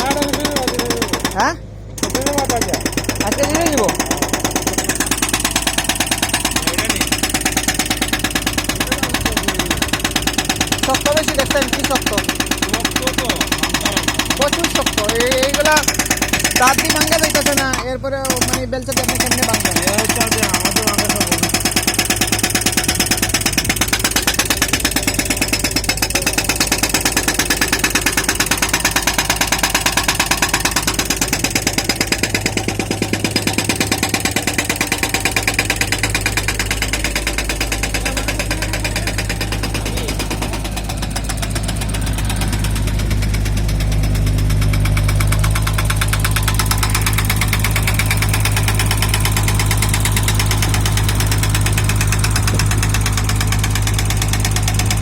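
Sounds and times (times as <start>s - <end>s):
diesel engine running under load: 0.0s - 55.0s
hydraulic breaker hammer pounding: 0.0s - 55.0s.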